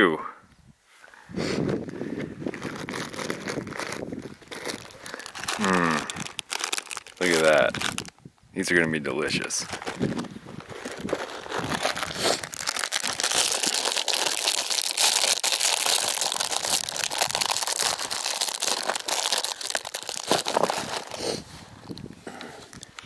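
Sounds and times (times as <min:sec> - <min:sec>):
plastic wrapper crinkling and tearing: 0:02.4 - 0:08.2, 0:09.6 - 0:23.0.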